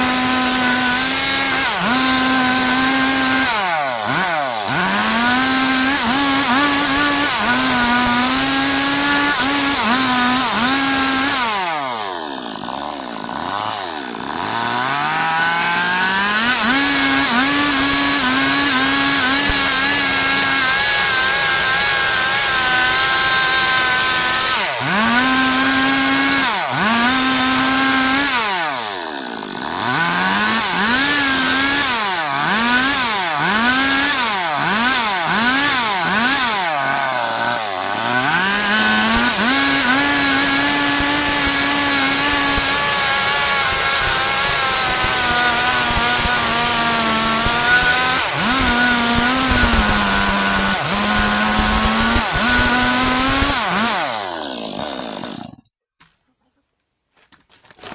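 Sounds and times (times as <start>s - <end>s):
chainsaw cutting a log: 0.0s - 55.7s.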